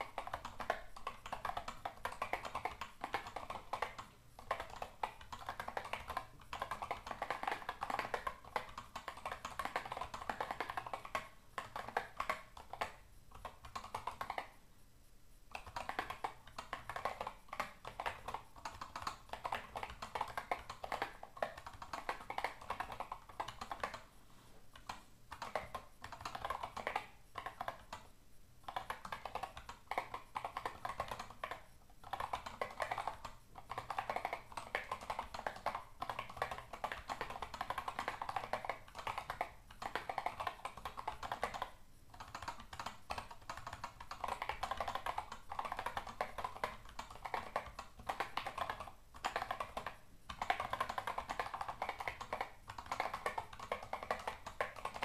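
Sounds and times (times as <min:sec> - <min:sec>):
mechanical keyboard typing: 0:00.0 - 0:14.6, 0:15.5 - 0:24.1, 0:24.7 - 0:55.0.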